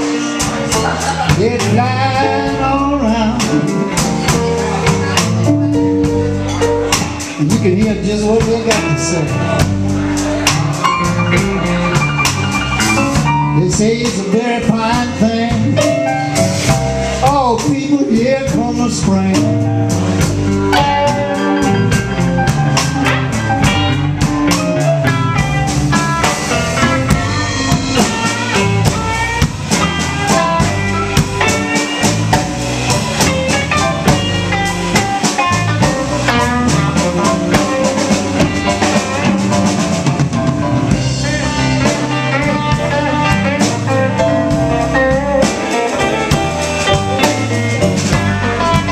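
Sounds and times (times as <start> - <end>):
blues band playing: 0.0 - 48.9.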